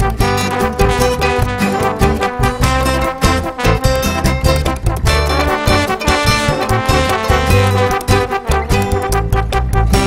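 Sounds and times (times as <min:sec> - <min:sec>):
upbeat brass music: 0:00.0 - 0:10.0.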